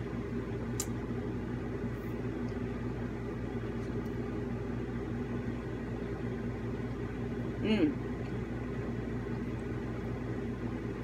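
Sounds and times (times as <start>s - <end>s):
air conditioner hum: 0.0s - 11.0s.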